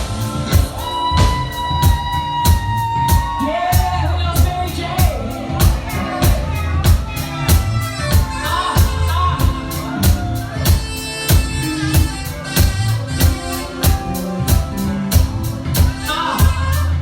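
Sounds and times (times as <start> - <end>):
bass line: 0.0 - 17.0
drum kit beat: 0.0 - 17.0.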